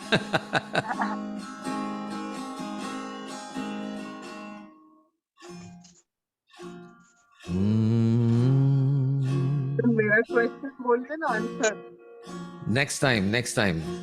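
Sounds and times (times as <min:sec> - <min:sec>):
acoustic guitar strumming: 0:00.0 - 0:04.8, 0:05.4 - 0:05.9, 0:06.5 - 0:14.0.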